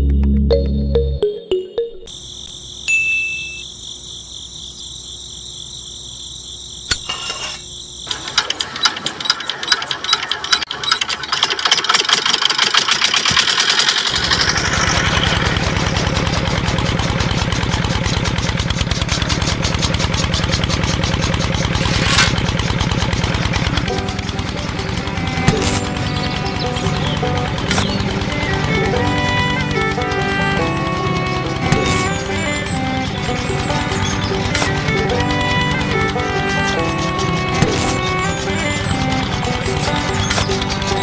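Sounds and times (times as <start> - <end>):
small diesel engine running: 7.2 - 41.0
engine hand-cranking clicks: 8.1 - 41.0.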